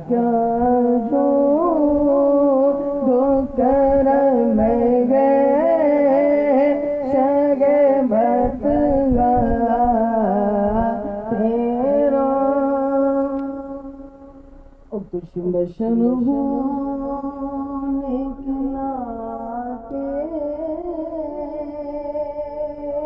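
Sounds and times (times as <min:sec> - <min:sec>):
man singing through loudspeakers: 0:00.0 - 0:14.3, 0:14.9 - 0:23.0.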